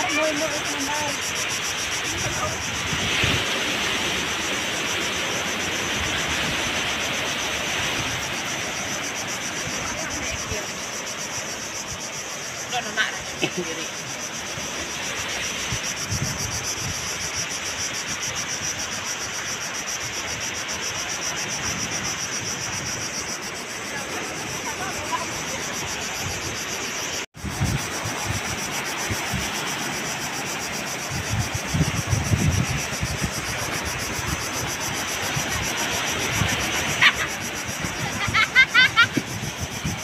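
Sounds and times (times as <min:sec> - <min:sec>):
wind buffeting microphone: 0:00.0 - 0:10.9, 0:14.5 - 0:19.0, 0:21.3 - 0:40.0
surf: 0:00.0 - 0:11.7, 0:19.4 - 0:40.0.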